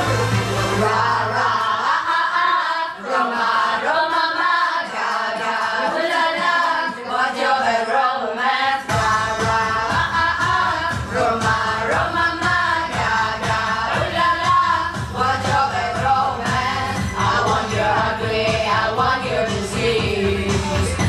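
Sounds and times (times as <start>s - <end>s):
pop backing track: 0.0s - 7.7s, 8.7s - 21.0s
people singing karaoke: 0.0s - 21.0s.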